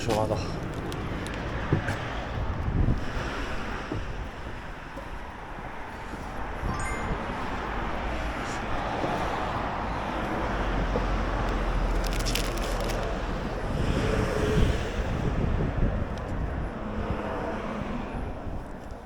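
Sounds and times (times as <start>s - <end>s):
road noise: 0.0s - 19.0s
wind rush: 1.3s - 11.3s, 13.2s - 19.0s.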